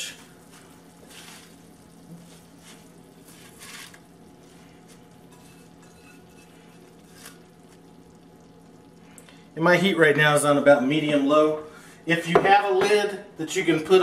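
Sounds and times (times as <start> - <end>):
faint sizzling in a skillet: 0.0 - 14.0.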